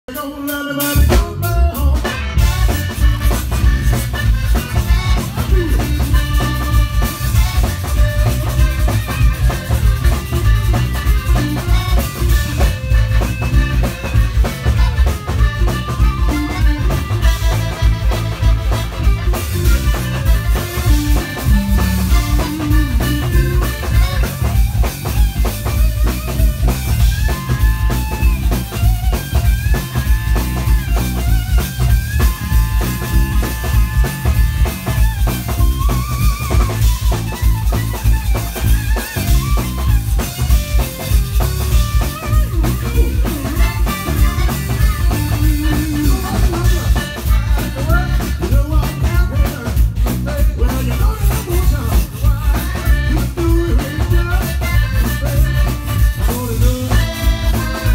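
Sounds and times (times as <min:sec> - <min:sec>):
zydeco band playing: 0:00.0 - 0:57.9.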